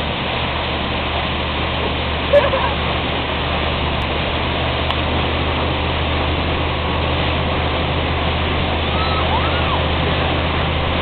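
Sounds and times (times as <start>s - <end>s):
churning wake water: 0.0s - 11.0s
motorboat engine running: 0.0s - 11.0s.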